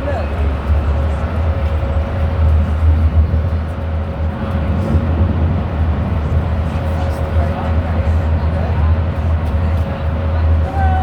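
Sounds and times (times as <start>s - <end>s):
bus low rumble: 0.0s - 11.0s
cooling fan drone: 0.0s - 11.0s.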